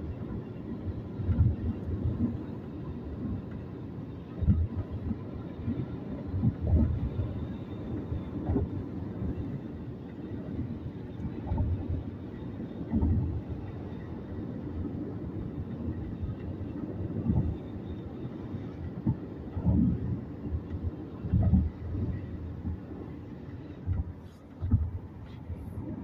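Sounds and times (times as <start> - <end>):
car tyres and engine rumble: 0.0 - 26.0.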